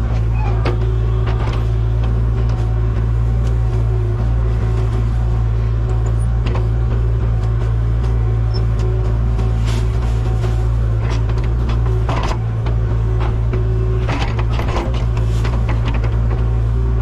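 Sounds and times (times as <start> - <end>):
heavy equipment engine running: 0.0 - 17.0.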